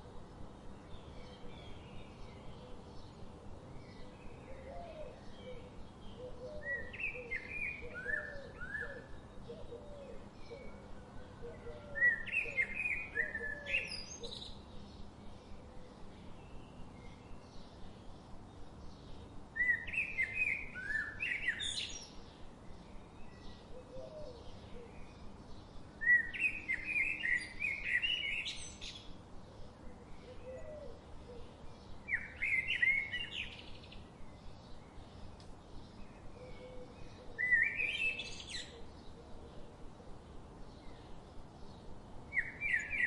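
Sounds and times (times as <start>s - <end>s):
songbird singing: 0.0s - 43.0s.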